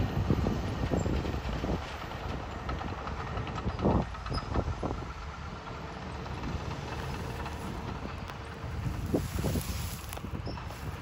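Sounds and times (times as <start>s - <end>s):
bulldozer diesel engine rumbling: 0.0s - 11.0s
steel tracks clanking: 0.0s - 11.0s.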